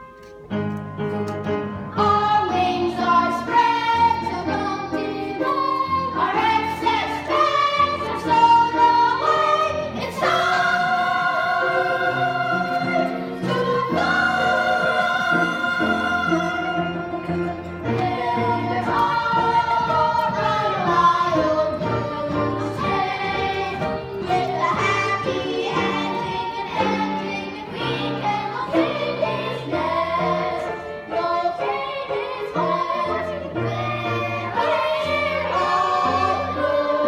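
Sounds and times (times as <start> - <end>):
instrumental accompaniment: 0.0 - 37.0
group singing a show tune: 2.0 - 37.0.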